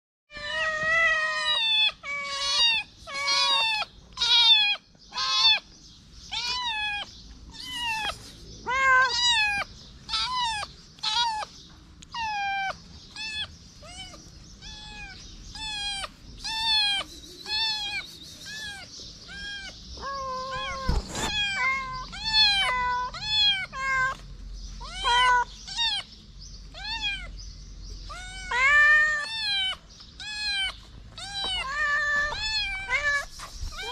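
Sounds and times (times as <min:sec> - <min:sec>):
cats meowing: 0:00.3 - 0:27.4, 0:28.0 - 0:33.9.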